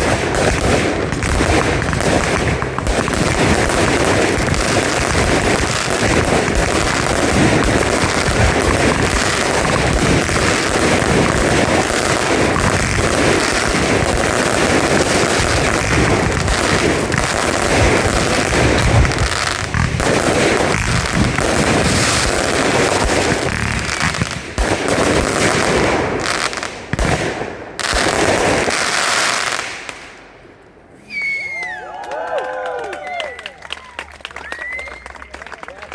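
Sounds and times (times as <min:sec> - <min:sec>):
fireworks bursts and crackling: 0:00.0 - 0:30.5.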